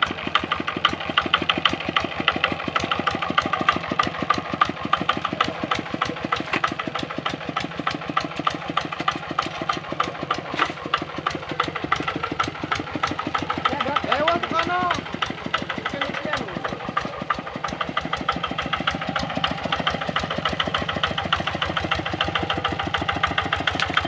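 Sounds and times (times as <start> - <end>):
diesel engine knocking steadily: 0.0 - 24.0.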